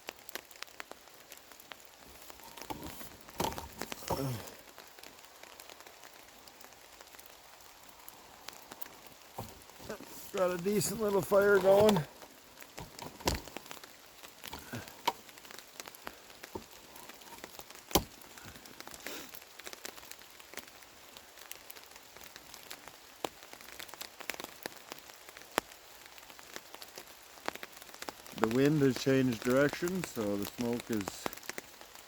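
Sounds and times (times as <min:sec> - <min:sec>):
campfire crackling: 0:00.0 - 0:32.0
rain pattering: 0:00.0 - 0:32.0
sharp fire snaps: 0:00.0 - 0:32.0.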